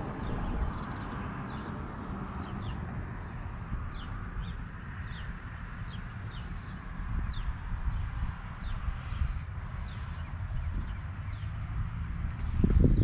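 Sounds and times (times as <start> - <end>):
steady low rumble: 0.0 - 11.0, 11.6 - 13.0
small birds chirping: 0.0 - 11.7.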